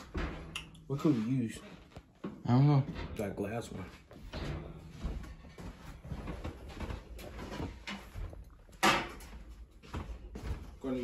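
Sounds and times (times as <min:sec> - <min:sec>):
light knocks and shuffling: 0:00.0 - 0:11.0.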